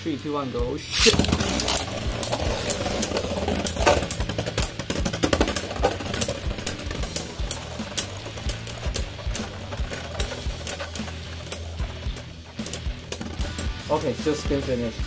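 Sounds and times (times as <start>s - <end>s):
spinning tops whirring: 0.8s - 15.0s
plastic tops clicking and knocking: 1.0s - 14.6s.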